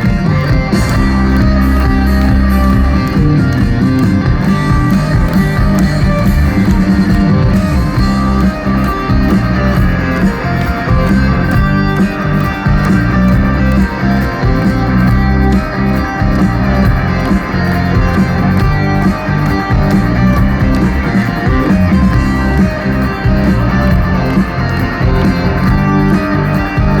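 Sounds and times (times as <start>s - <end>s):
electric guitars: 0.0s - 27.0s
live rock band playing: 0.0s - 27.0s.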